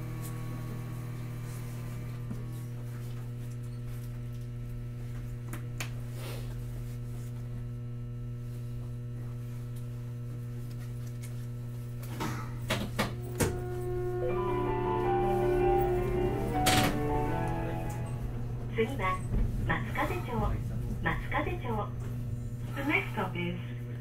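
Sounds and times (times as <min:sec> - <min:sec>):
tram electrical hum: 0:00.0 - 0:24.0.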